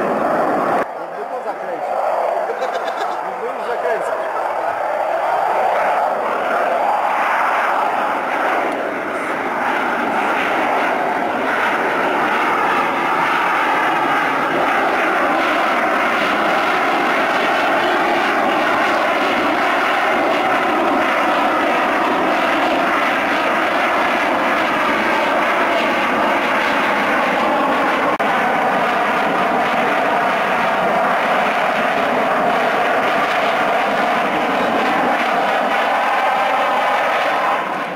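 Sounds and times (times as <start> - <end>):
jet flying overhead: 0.0 - 37.9.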